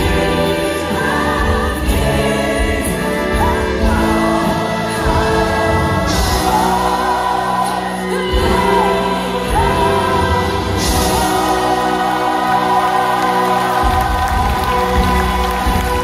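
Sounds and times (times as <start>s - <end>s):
choir singing with accompaniment: 0.0s - 16.0s.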